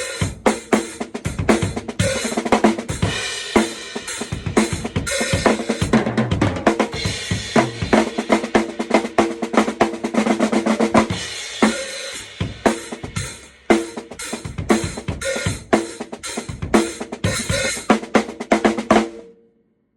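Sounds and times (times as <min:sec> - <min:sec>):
drum kit playing: 0:00.0 - 0:19.2.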